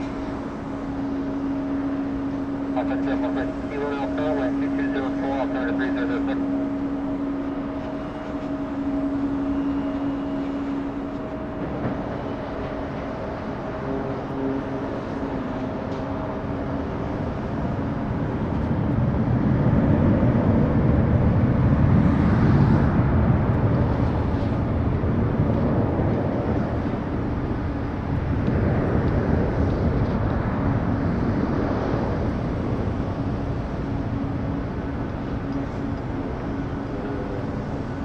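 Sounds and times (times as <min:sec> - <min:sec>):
jet airliner passing: 0:00.0 - 0:38.0.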